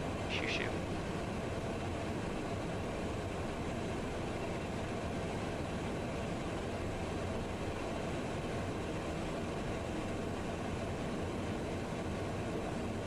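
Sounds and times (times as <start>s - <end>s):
jet cockpit airflow and engine noise: 0.0s - 13.0s.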